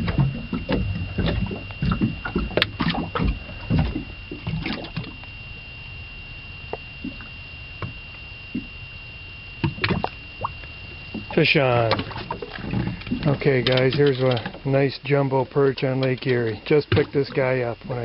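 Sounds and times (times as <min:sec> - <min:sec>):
water slapping under hull: 0:00.0 - 0:05.6, 0:06.7 - 0:17.9
faint steady high tone: 0:00.0 - 0:18.0.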